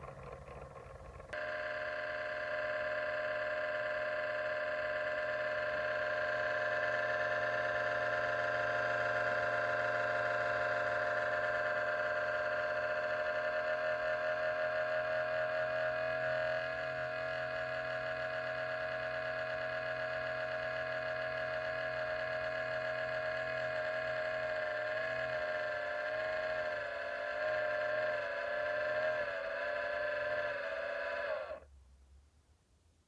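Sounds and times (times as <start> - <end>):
computer whine: 0.0 - 31.7
low hum: 0.0 - 31.7.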